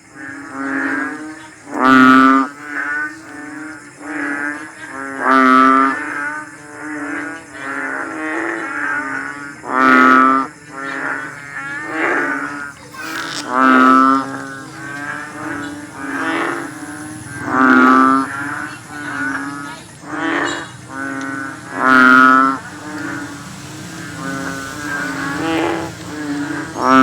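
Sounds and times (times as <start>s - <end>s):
frog calling: 0.0s - 27.0s.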